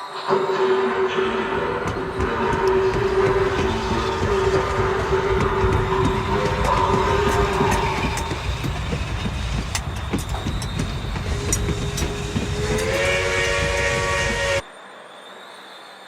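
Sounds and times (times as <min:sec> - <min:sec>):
model train rumbling: 0:01.1 - 0:14.7
wheels clicking over rail joints: 0:01.6 - 0:14.6.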